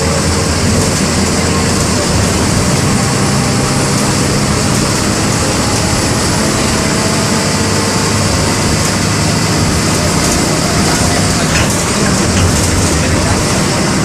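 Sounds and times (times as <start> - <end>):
diesel bus engine drone: 0.0 - 14.0.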